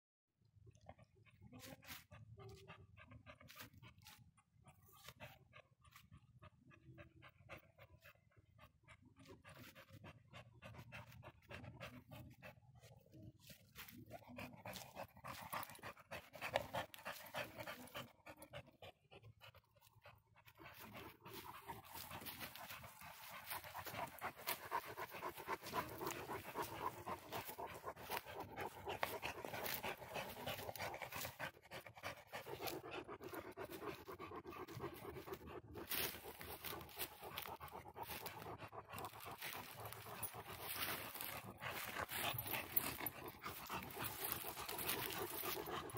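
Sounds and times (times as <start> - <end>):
dog panting: 0.7 - 45.9.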